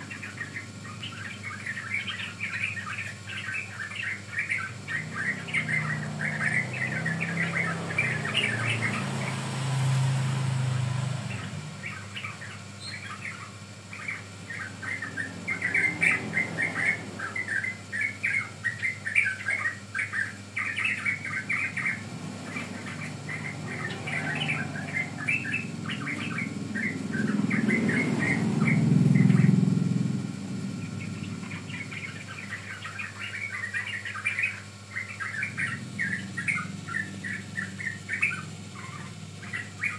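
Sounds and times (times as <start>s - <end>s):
bulbul singing chattering phrases: 0.0s - 39.9s.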